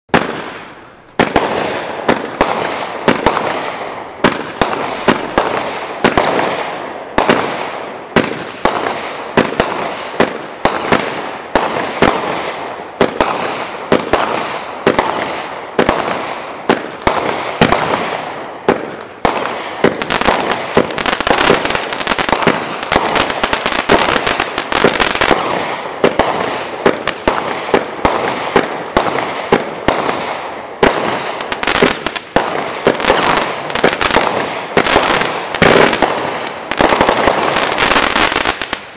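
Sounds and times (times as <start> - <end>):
firework shots firing: 0.1 - 38.9.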